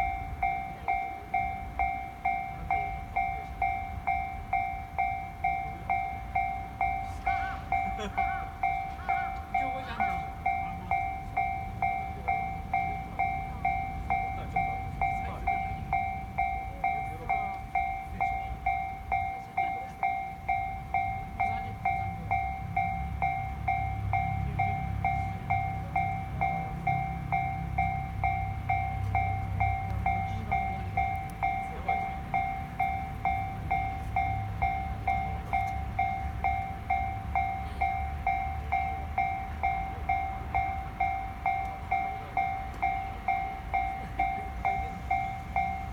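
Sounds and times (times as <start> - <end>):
level crossing bell ringing: 0.0 - 45.9
train rumbling past: 0.0 - 45.9.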